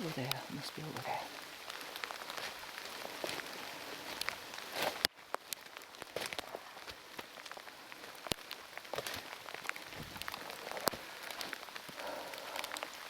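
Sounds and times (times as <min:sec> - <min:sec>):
heavy steady rain: 0:00.0 - 0:13.0
raindrops ticking close by: 0:00.0 - 0:13.0.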